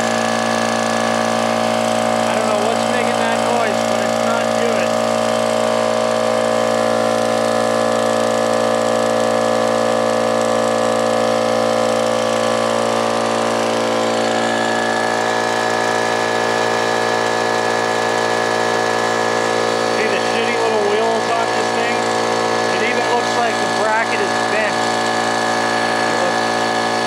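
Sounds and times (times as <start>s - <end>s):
air compressor running: 0.0s - 27.0s.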